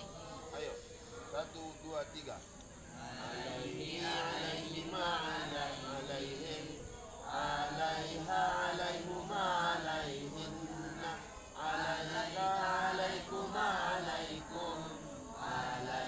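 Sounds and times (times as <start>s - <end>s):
boys chanting in unison: 0.0s - 16.0s.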